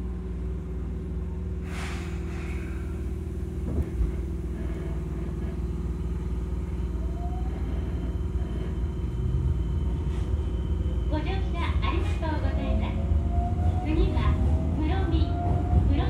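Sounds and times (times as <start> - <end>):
train rumble and hum: 0.0 - 16.0.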